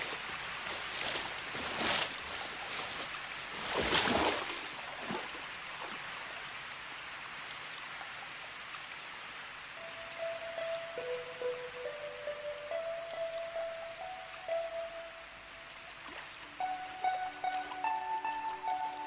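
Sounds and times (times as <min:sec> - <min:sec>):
heavy rain on water: 0:00.0 - 0:19.0.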